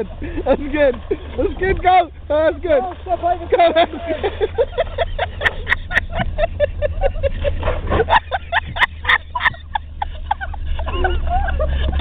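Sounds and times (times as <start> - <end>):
man laughing: 0.0 - 2.8, 3.4 - 12.0
car engine and tyres rumbling: 0.0 - 12.0.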